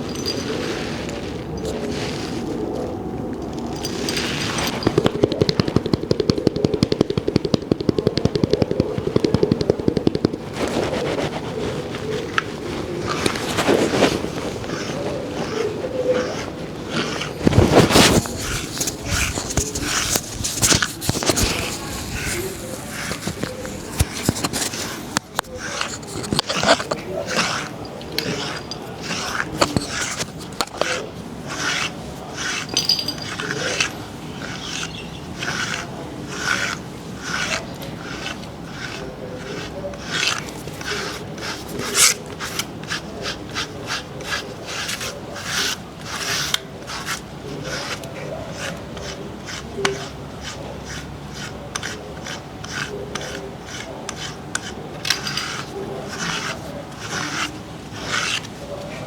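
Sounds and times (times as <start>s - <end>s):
brush strokes on cat fur: 0.0s - 59.0s.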